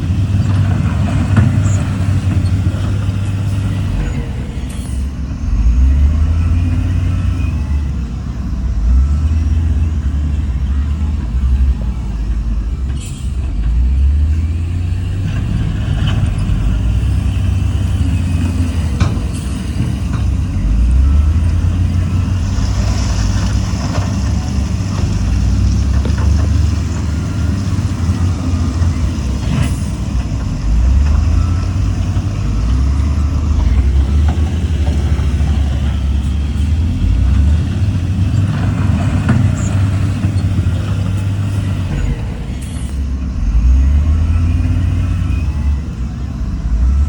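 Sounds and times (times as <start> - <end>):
heavy diesel engines rumbling: 0.0 - 47.0.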